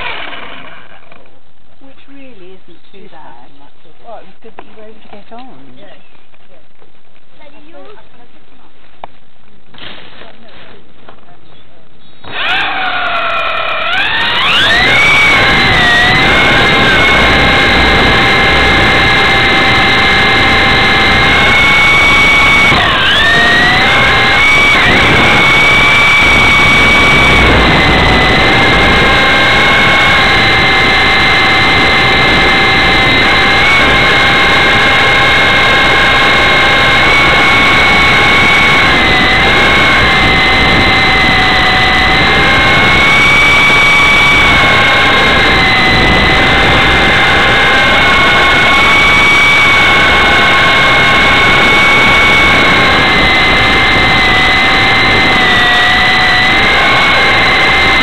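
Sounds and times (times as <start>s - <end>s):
rc helicopter motor whine: 0.0s - 1.3s, 12.2s - 58.0s.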